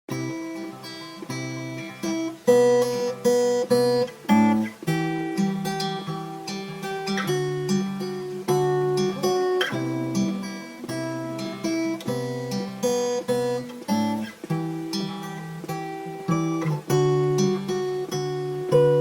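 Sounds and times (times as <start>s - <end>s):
guitar plucking chords: 0.1s - 19.0s.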